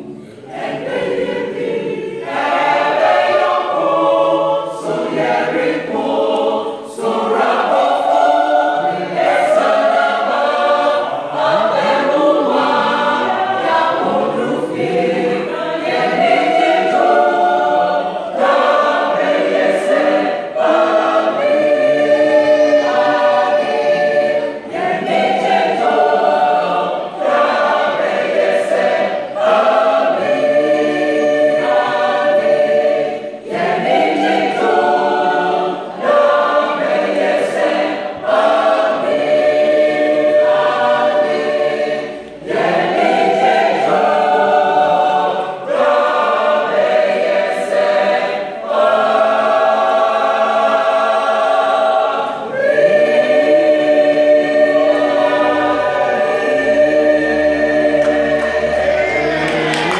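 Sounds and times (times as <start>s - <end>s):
choir singing in harmony: 0.0s - 59.9s.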